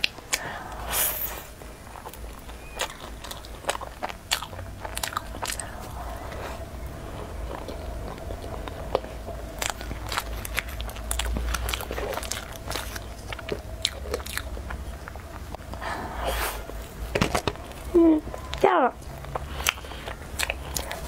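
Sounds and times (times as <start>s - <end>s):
chewing soft cake: 1.5s - 21.0s.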